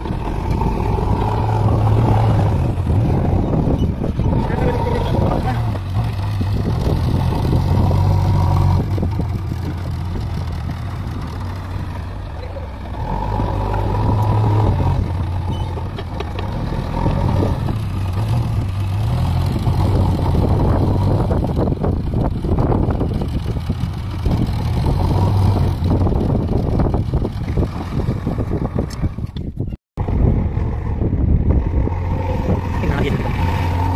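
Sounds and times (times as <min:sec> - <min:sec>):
diesel engine revving under load: 0:00.0 - 0:29.3, 0:30.0 - 0:33.9.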